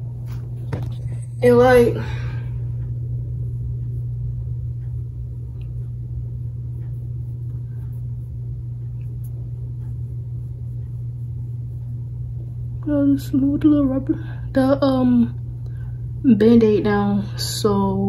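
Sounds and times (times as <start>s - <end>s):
low hum with rumble: 0.0s - 18.0s.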